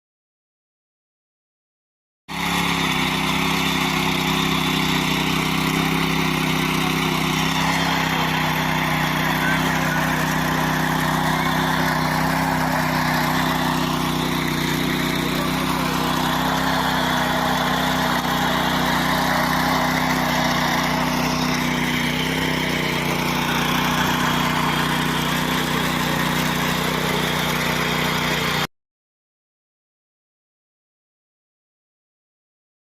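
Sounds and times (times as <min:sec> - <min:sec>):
tractor engine running: 0:02.3 - 0:28.7.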